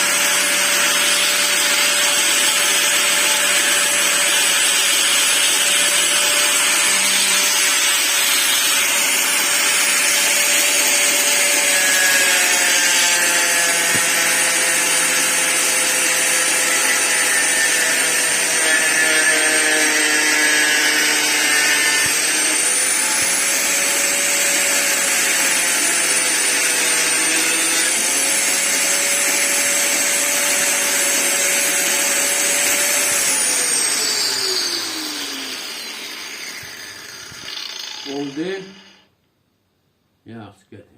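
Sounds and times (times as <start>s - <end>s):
angle grinder whining: 0.0s - 39.1s.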